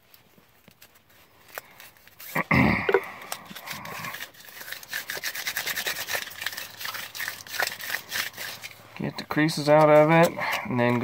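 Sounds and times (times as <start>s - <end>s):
card crinkling and crackling: 0.0s - 11.0s.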